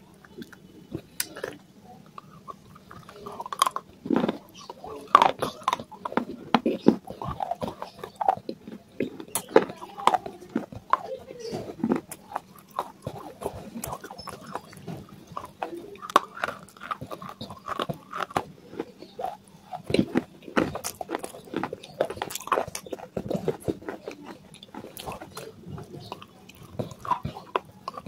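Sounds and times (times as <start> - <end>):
chewing crunchy clay: 0.0 - 28.0.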